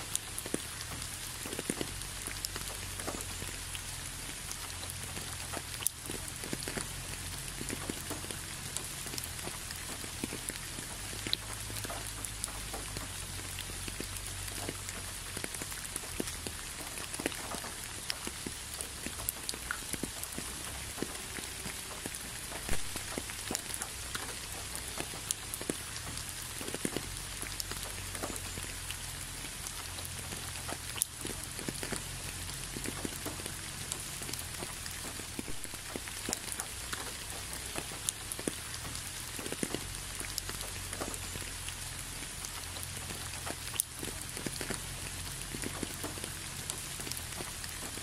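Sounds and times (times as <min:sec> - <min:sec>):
raindrops striking close by: 0:00.0 - 0:48.0
steady rain falling: 0:00.0 - 0:48.0.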